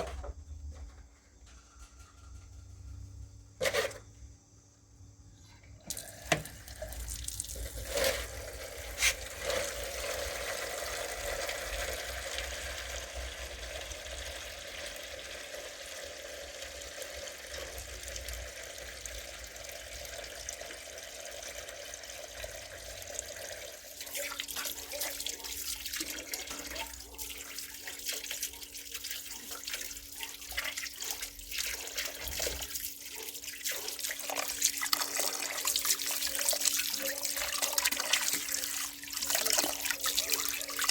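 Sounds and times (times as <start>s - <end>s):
water running: 5.7s - 40.9s.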